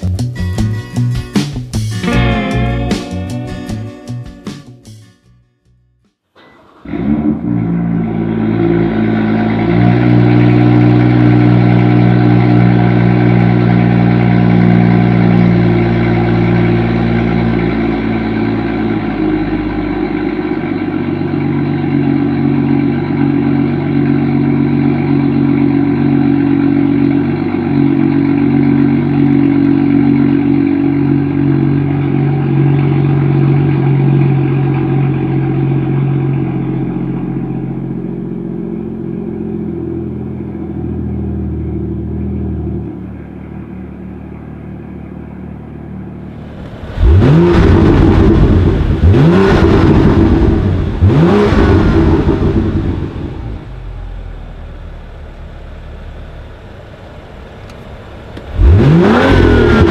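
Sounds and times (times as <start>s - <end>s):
car engine idling: 5.8s - 59.9s.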